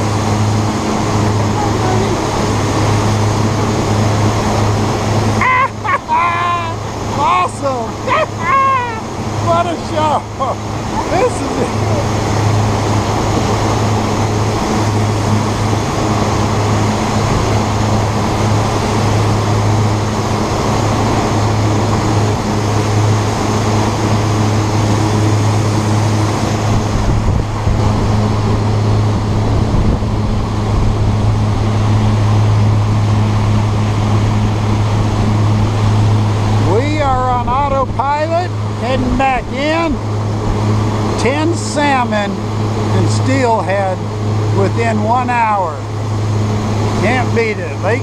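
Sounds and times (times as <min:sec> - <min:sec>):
boat engine humming: 0:00.0 - 0:48.0
rush of wake and wind: 0:00.0 - 0:48.0.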